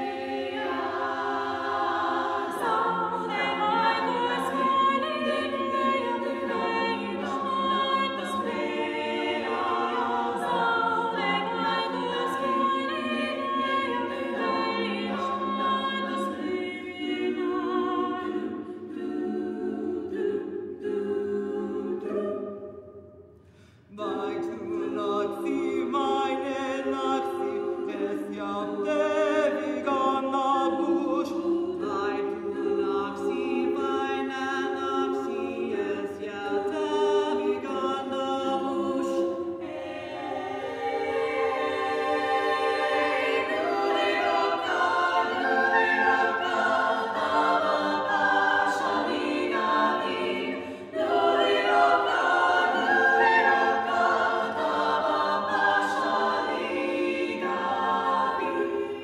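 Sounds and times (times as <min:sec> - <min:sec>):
women's choir singing: 0:00.0 - 0:59.0.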